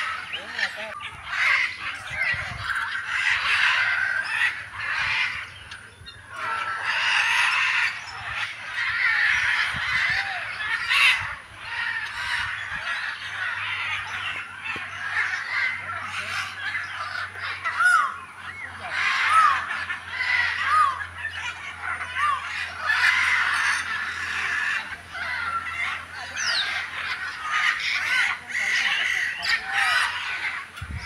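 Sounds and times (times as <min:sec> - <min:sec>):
chorus of chattering birds: 0:00.0 - 0:31.0.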